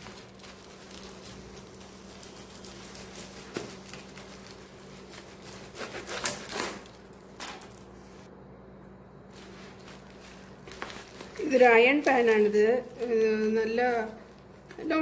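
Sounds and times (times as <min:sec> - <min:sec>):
bubble wrap crackles: 0:00.0 - 0:08.3, 0:09.3 - 0:15.0
bubble wrap crinkling: 0:00.0 - 0:08.3, 0:09.3 - 0:15.0.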